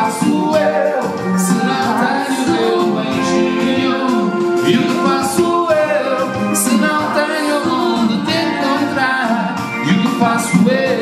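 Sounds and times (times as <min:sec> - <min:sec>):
people singing with accompaniment: 0:00.0 - 0:11.0.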